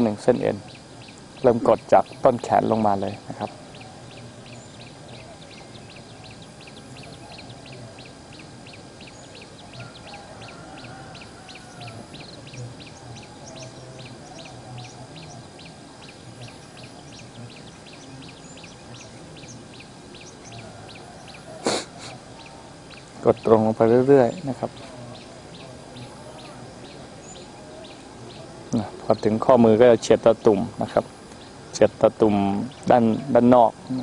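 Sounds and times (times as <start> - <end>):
distant animal calls: 0.0 - 34.0.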